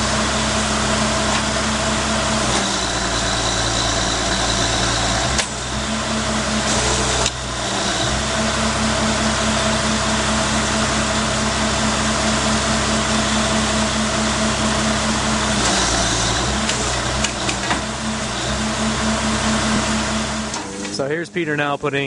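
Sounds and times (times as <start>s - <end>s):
drilling rig engine running: 0.0s - 22.0s.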